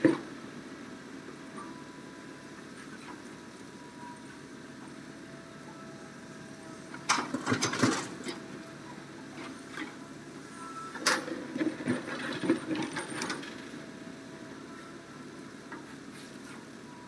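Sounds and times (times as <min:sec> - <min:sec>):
excavator engine drone: 0:00.0 - 0:17.0.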